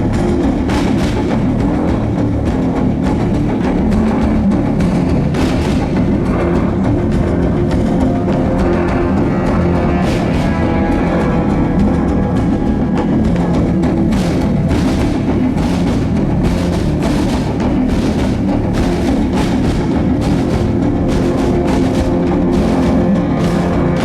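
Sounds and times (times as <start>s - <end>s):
drum troupe playing: 0.0s - 24.0s.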